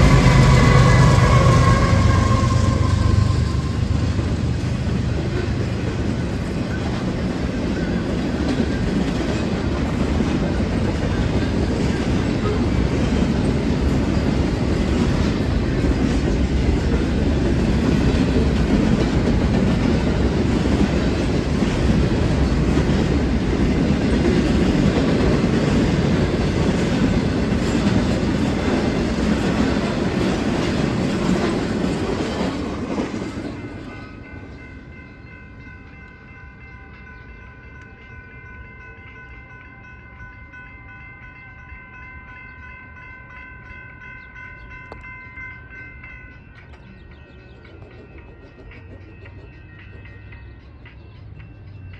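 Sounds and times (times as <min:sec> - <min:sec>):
crossing signal bell ringing: 0:00.0 - 0:32.2, 0:33.5 - 0:51.9
freight train wheels rumbling on rail: 0:00.0 - 0:51.9.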